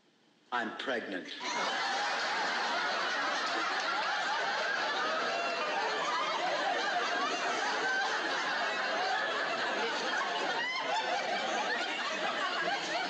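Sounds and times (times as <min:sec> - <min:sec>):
studio audience laughing: 0:01.4 - 0:13.0.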